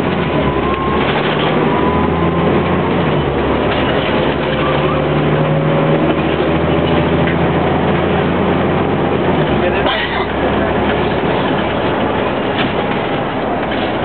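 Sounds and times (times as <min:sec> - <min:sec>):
bus engine running: 0:00.0 - 0:14.0
road noise: 0:00.0 - 0:14.0.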